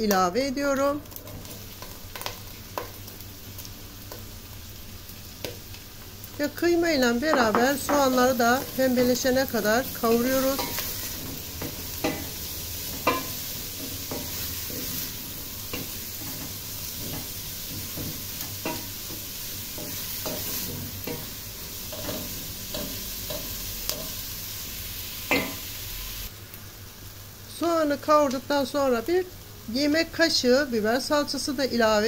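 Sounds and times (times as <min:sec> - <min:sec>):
meat and onions sizzling: 0:00.0 - 0:32.0.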